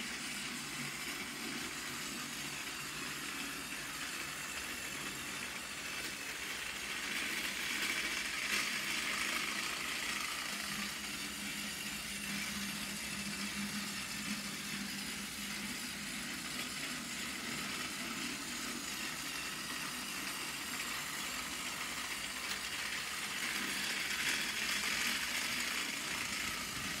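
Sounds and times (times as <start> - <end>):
toy train motor whirring: 0.0 - 27.0.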